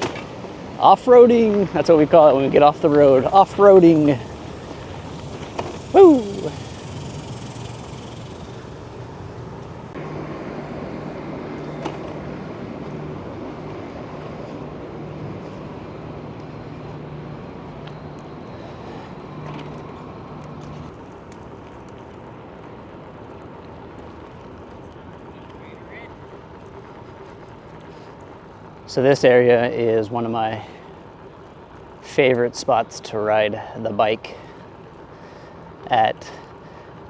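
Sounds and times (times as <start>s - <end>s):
bicycle rolling: 0.0s - 37.0s.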